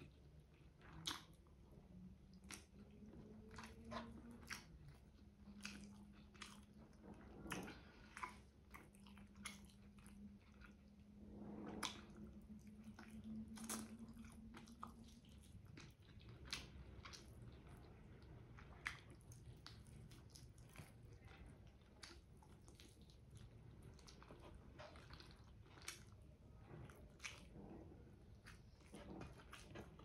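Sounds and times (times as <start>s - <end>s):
low steady hum: 0.0s - 30.0s
wet chewing and lip smacks: 0.1s - 11.1s, 11.7s - 30.0s.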